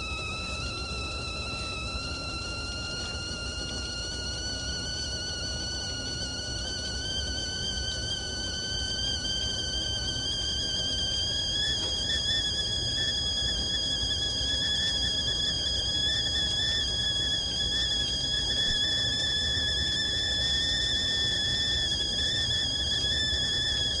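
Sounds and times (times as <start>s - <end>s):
kettle whistling: 0.0s - 24.0s.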